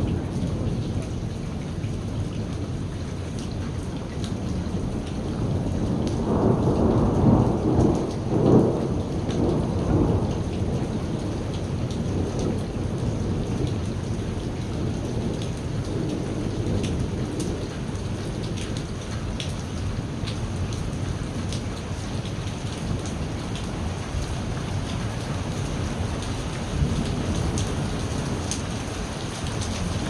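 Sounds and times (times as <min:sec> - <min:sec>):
steady rain falling: 0:00.0 - 0:30.0
thunder rumbling: 0:05.5 - 0:30.0.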